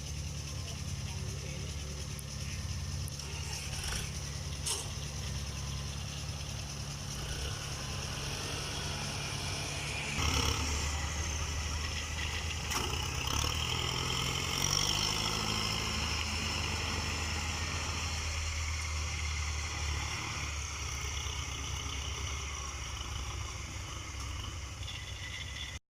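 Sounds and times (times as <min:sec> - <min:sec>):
diesel engine running: 0:00.0 - 0:25.8.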